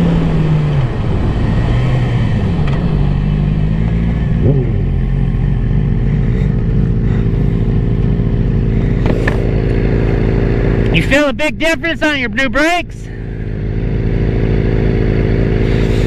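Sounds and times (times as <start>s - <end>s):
motorcycle engine slowing and idling: 0.0s - 16.0s.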